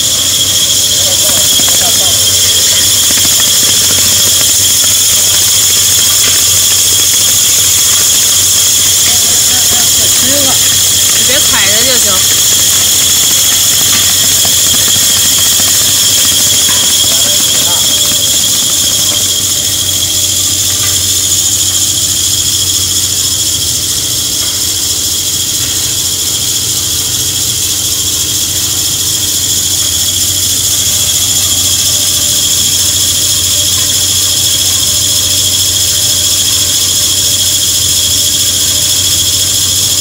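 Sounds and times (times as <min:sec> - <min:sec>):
production line machinery whine: 0:00.0 - 0:40.0.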